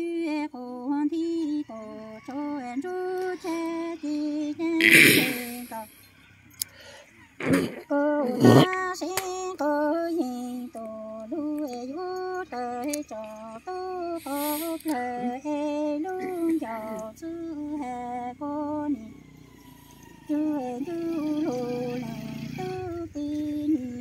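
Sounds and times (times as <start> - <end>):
woman singing unaccompanied: 0.0 - 24.0.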